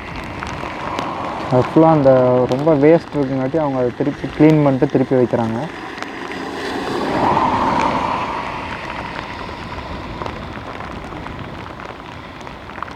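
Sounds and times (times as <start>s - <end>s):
stream water rushing: 0.0s - 12.9s.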